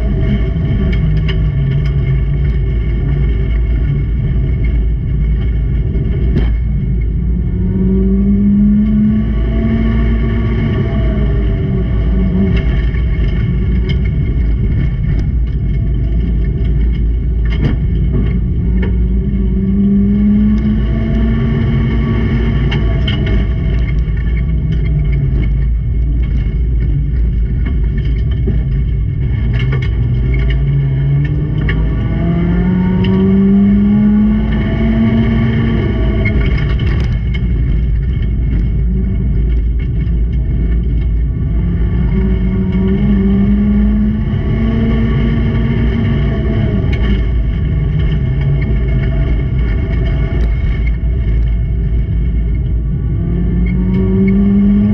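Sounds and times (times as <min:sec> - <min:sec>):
race car engines revving: 0:00.0 - 0:54.9
sharp knocks and clatters: 0:09.9 - 0:54.8.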